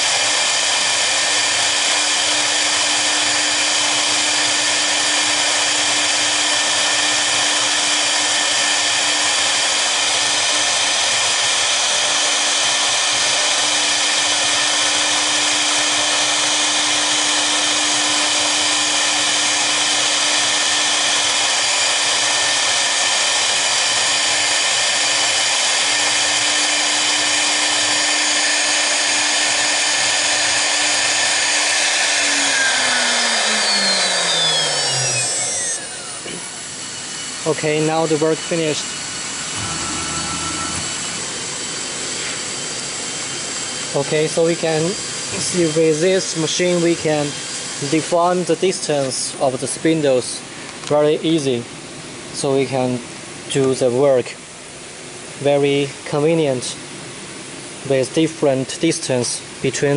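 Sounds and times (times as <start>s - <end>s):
router spindles whining: 0.0s - 50.1s.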